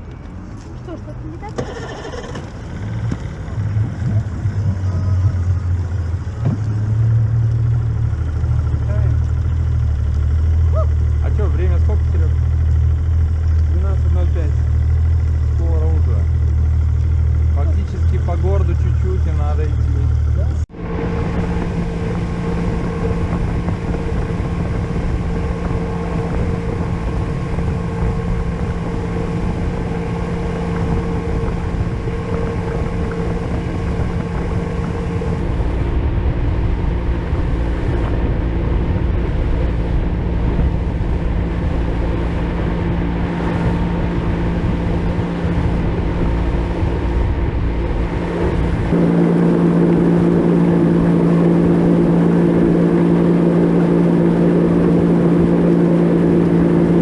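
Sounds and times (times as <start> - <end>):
motorboat engine humming: 0.0 - 57.0.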